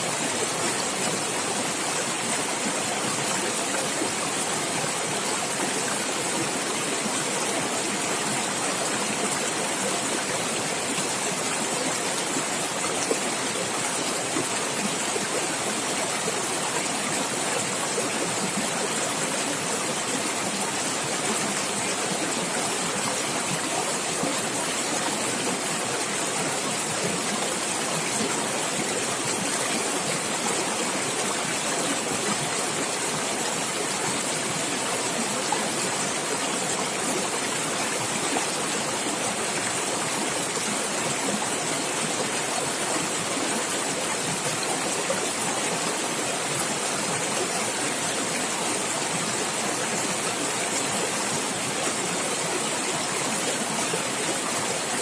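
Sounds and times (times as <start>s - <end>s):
stream water gurgling: 0.0s - 55.0s.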